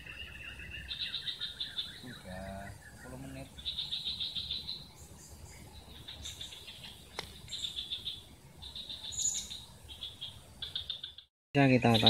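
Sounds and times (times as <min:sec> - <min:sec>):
insects trilling: 0:00.0 - 0:11.2.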